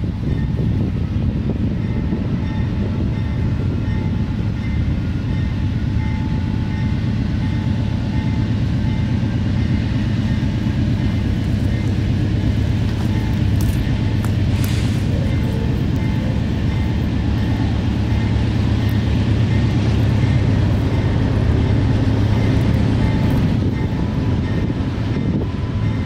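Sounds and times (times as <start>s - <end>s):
locomotive engine rumble: 0.0s - 26.0s.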